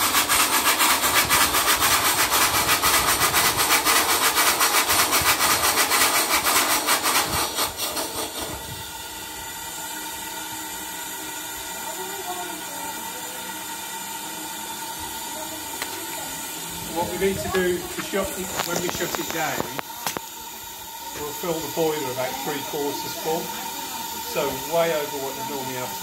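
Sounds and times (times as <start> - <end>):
steady hiss of steam: 0.0 - 26.0
steam engine exhaust beats: 0.0 - 26.0.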